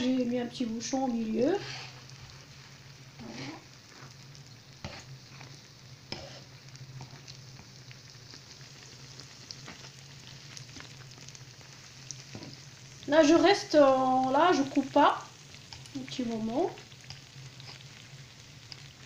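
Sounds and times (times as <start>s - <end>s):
dough frying in hot oil: 0.0s - 19.0s.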